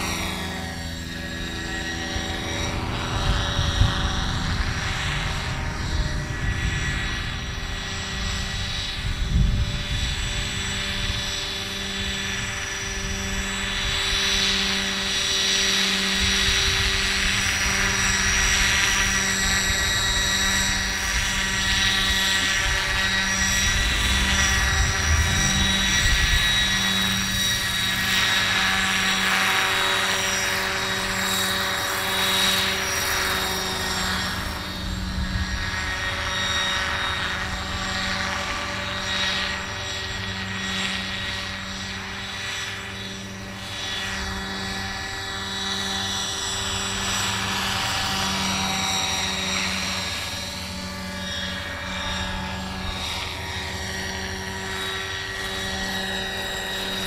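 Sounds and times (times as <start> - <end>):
model helicopter rotor whine: 0.0 - 57.0.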